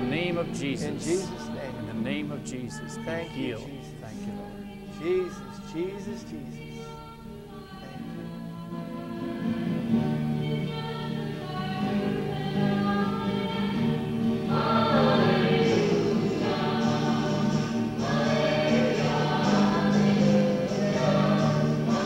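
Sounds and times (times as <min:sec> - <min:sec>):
choir singing held chords: 0:00.0 - 0:22.0.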